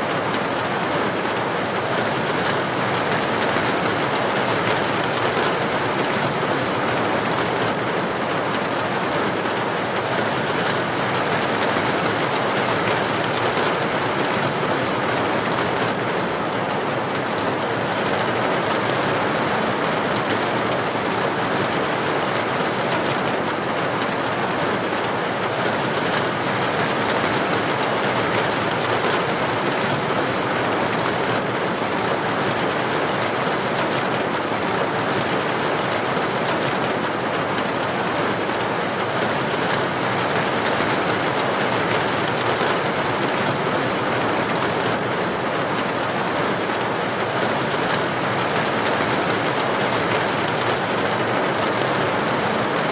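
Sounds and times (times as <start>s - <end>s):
heavy rain on a street: 0.0s - 52.9s.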